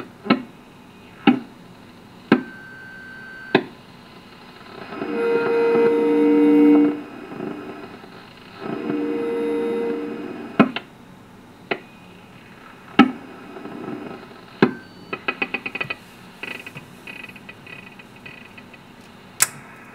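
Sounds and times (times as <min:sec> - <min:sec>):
low background hiss: 0:00.0 - 0:19.9
steady radio tones: 0:00.8 - 0:10.8, 0:12.1 - 0:18.8.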